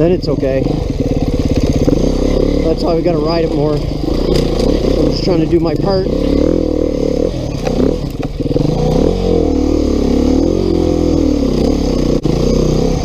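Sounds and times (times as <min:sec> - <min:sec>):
motorcycle engine running under load: 0:00.0 - 0:13.0.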